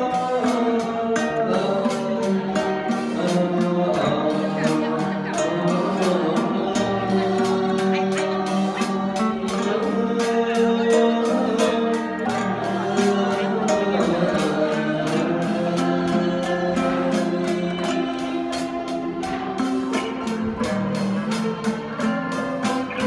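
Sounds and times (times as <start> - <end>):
man singing into a microphone: 0.0 - 23.0
struck and plucked strings: 0.0 - 23.0.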